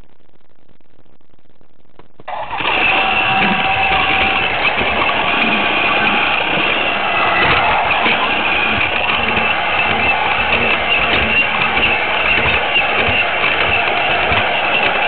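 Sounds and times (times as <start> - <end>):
toy train motor whining: 2.3 - 15.0
rattling toy train drive: 2.5 - 15.0.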